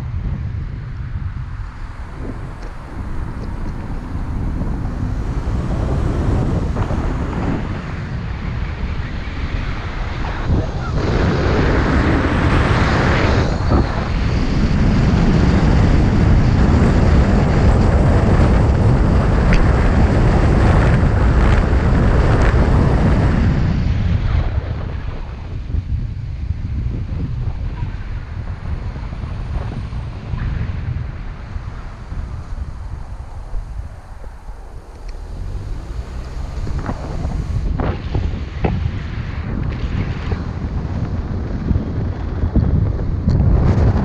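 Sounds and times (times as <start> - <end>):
road noise: 0.0 - 44.0
wind buffeting microphone: 0.0 - 44.0.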